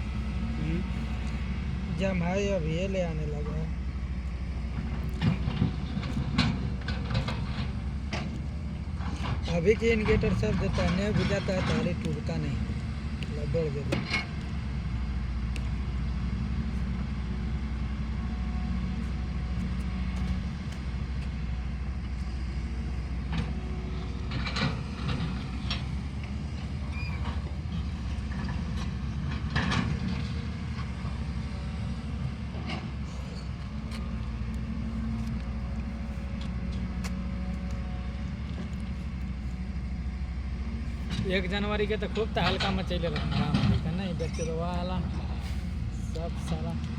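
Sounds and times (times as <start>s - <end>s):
vehicle engine hum: 0.0s - 46.9s.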